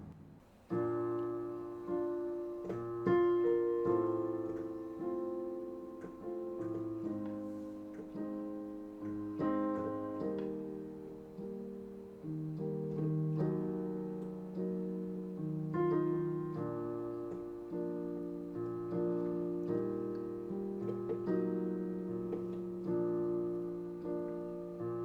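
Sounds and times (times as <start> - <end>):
piano playing slow chords: 0.0 - 25.0.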